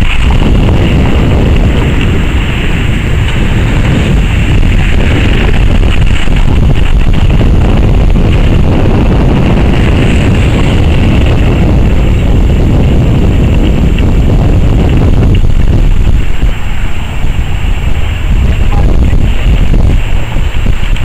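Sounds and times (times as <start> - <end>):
jet engines rumbling: 0.0 - 21.0
wind rumble on microphone: 0.0 - 21.0.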